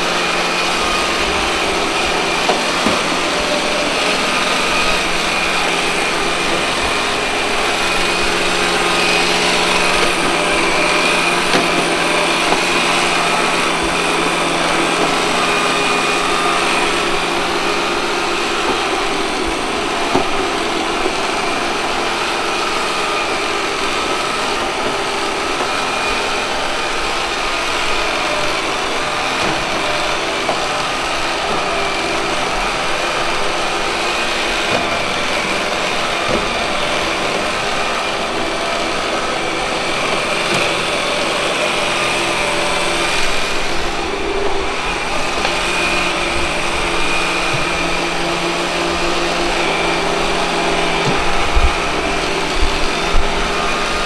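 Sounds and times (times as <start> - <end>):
robot vacuum cleaner whirring: 0.0 - 54.0.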